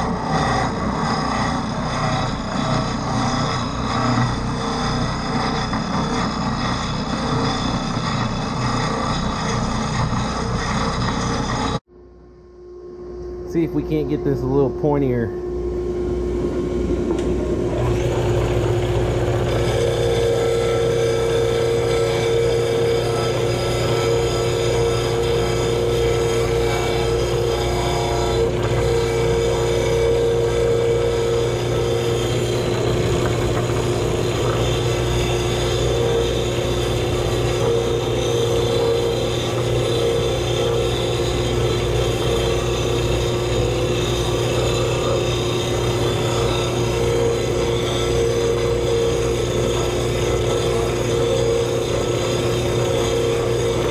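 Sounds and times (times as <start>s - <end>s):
wooden dowel scraping on sanding disc: 0.0s - 11.8s, 17.8s - 53.9s
sander motor humming: 0.0s - 11.9s, 13.1s - 53.9s.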